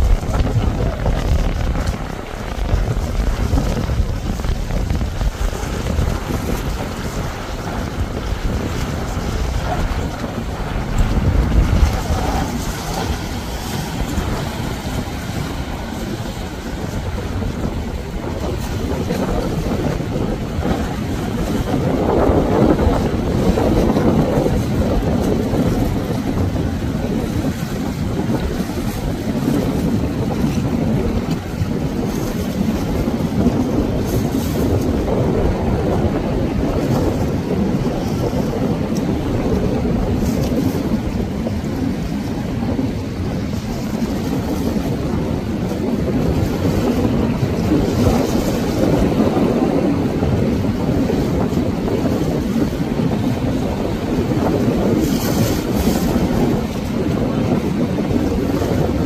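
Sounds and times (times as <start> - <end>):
outboard motor running: 0.0 - 59.0
surf rushing: 0.0 - 59.0
wind noise on microphone: 0.0 - 59.0.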